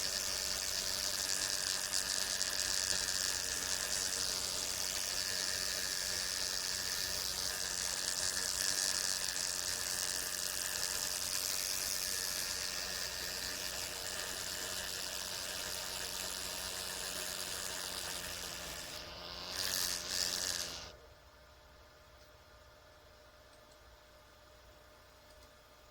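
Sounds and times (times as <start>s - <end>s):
insect wings buzzing: 0.0s - 21.0s.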